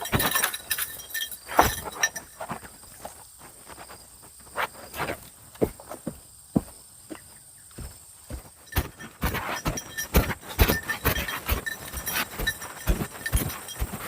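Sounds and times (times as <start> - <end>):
footsteps crunching on forest path: 0.0 - 14.0.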